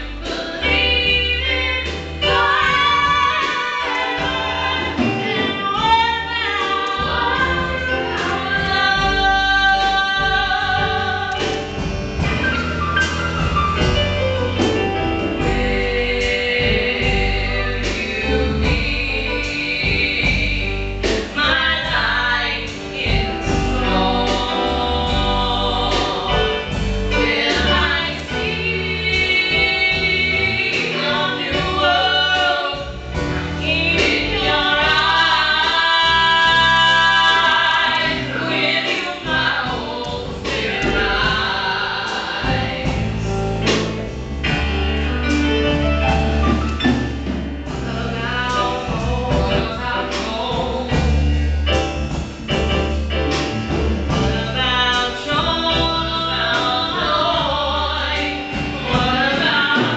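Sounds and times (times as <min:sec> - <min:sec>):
women singing a duet: 0:00.0 - 0:11.8, 0:14.7 - 0:43.7, 0:47.7 - 0:51.4, 0:54.1 - 0:59.9
instrumental accompaniment with bass: 0:00.0 - 0:59.9.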